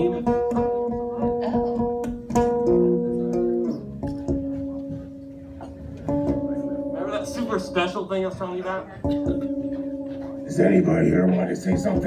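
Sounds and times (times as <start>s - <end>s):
amplified guitar notes: 0.0s - 12.0s.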